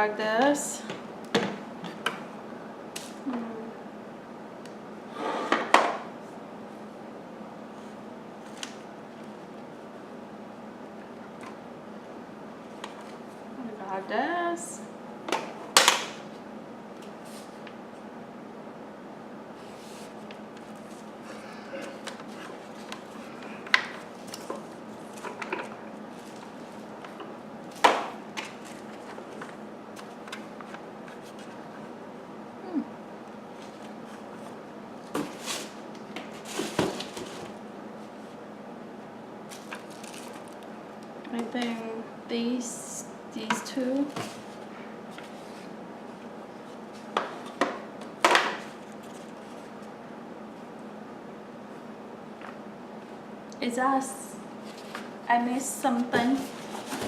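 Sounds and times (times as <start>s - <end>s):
low room hum: 0.0s - 57.0s.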